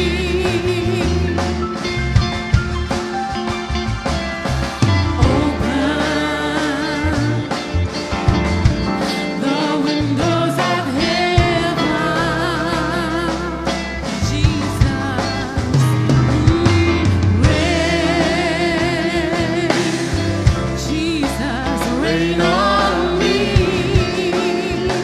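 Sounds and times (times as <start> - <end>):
gospel band with bass and drums: 0.0 - 25.0.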